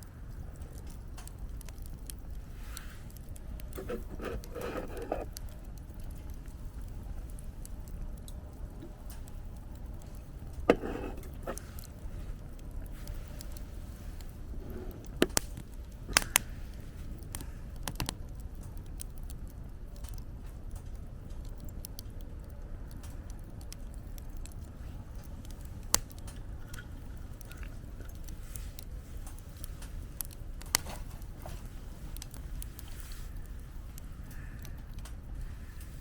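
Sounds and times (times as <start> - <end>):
low rumble of wind: 0.0 - 36.0
wood fire crackling and popping: 0.0 - 36.0.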